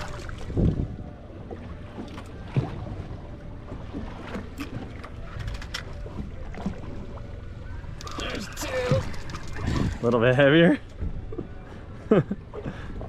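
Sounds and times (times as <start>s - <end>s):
wind and water against hull: 0.0s - 13.0s.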